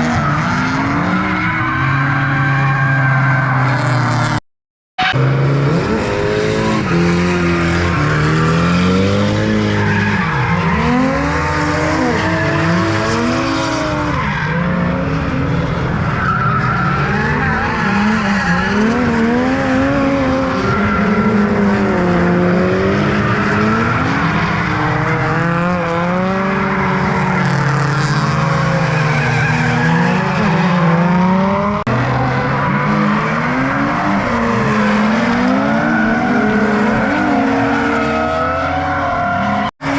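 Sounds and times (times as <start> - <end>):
car engines revving: 0.0 - 4.4, 5.0 - 39.9
tyres squealing and skidding: 0.0 - 4.4, 5.8 - 39.9.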